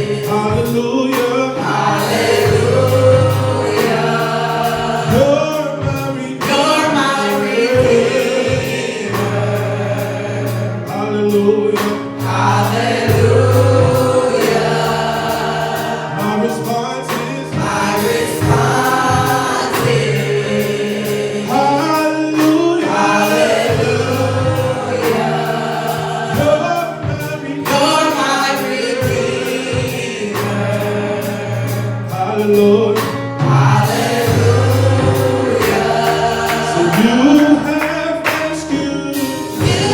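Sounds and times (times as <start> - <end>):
band with beat and bass: 0.0 - 39.9
gospel choir singing: 0.0 - 39.9.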